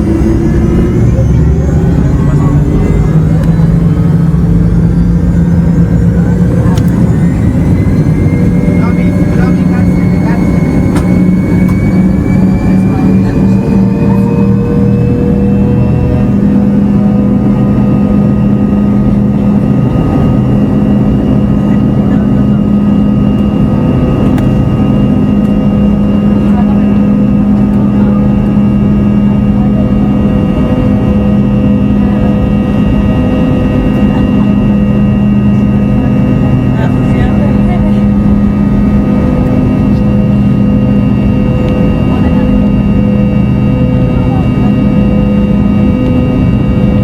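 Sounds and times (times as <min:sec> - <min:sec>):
jet engines buzzing: 0:00.0 - 0:47.0.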